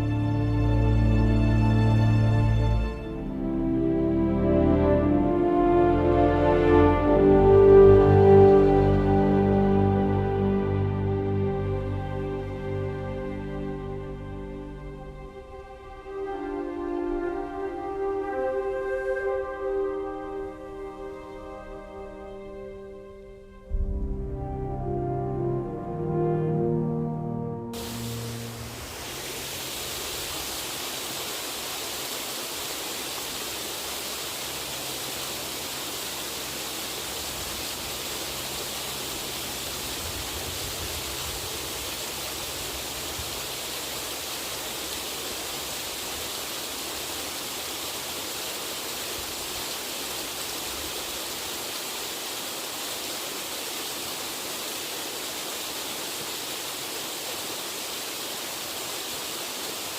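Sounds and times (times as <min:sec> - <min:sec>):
water pouring down waterfall: 0:00.0 - 0:22.1, 0:27.8 - 0:59.9.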